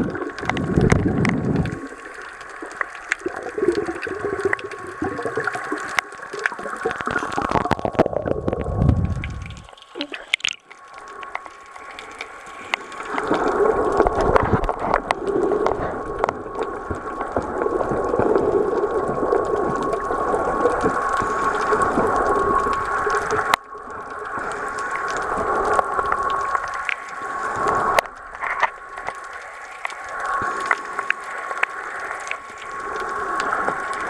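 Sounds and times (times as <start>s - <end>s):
underwater rushing hiss: 0.0s - 34.0s.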